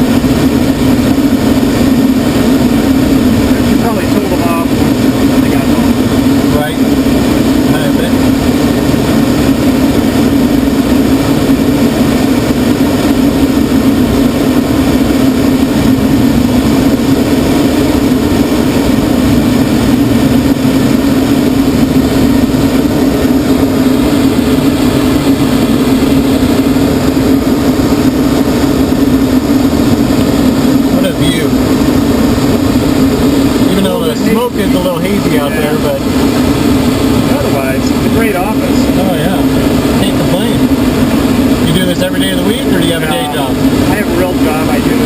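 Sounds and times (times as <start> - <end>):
glider cockpit drone: 0.0 - 45.0.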